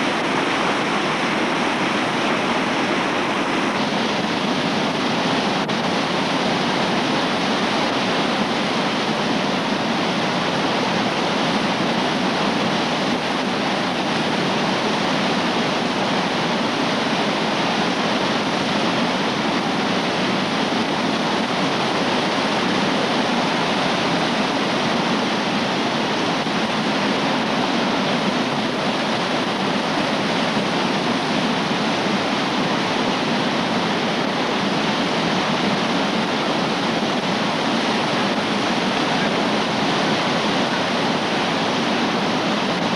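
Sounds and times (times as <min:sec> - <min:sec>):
river rapid rushing over rocks: 0:00.0 - 0:42.9.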